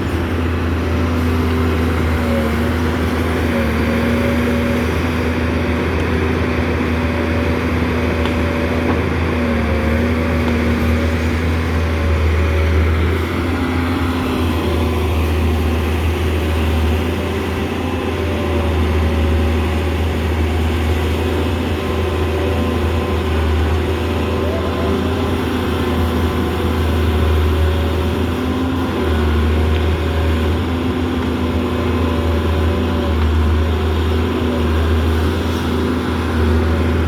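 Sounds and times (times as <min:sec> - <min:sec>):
diesel engine hum: 0:00.0 - 0:37.0.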